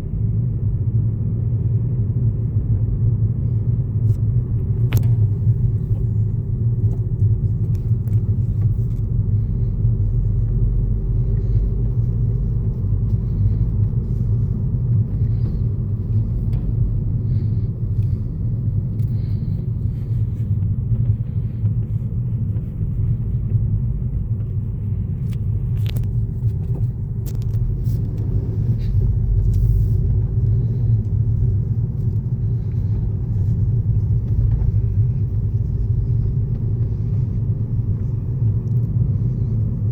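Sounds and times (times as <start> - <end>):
car engine low rumble: 0.0 - 39.9.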